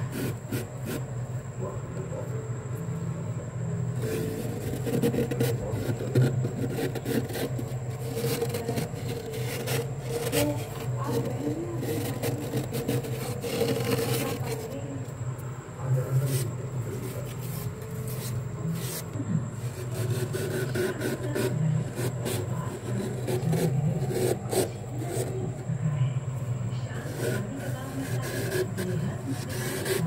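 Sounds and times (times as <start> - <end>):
fingers scraping frost: 0.0 - 1.2, 4.0 - 14.9, 16.2 - 25.7, 26.9 - 30.0.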